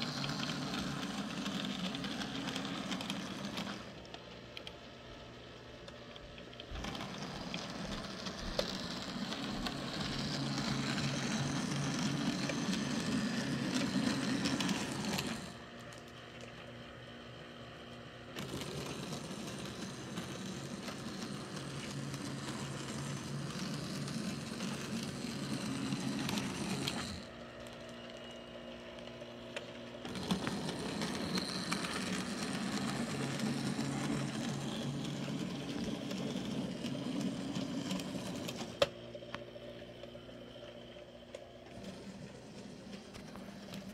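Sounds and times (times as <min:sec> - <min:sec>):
model trains whirring and clattering: 0:00.0 - 0:43.9.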